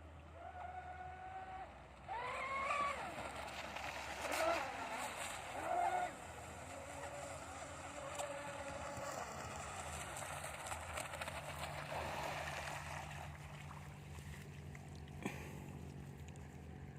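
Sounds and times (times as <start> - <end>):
faint wavering motor whine: 0.0 - 16.9.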